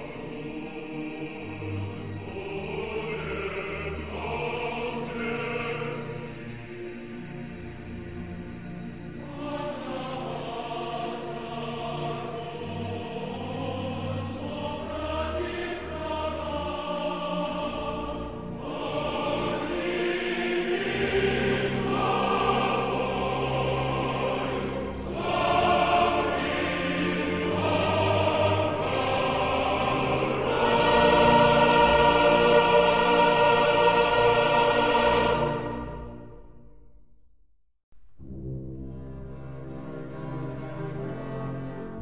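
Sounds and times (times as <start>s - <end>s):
choir singing long chords: 0.0s - 36.8s.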